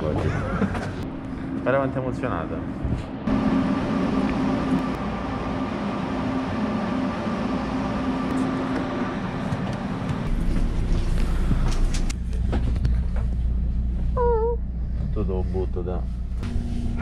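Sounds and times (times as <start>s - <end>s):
low rumble: 0.0s - 17.0s
train equipment humming: 0.0s - 17.0s
high whine: 0.9s - 14.8s, 16.1s - 17.0s.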